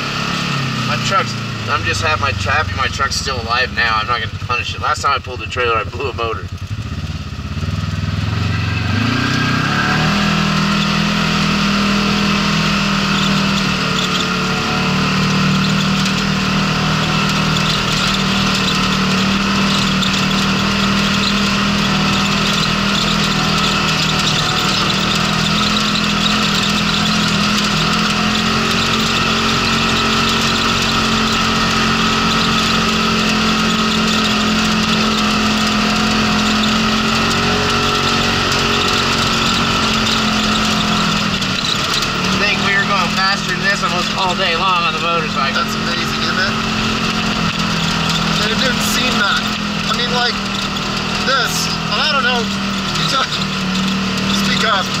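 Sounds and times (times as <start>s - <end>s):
tyres on gravel trail: 0.0s - 55.0s
vehicle engine revving: 0.0s - 55.0s.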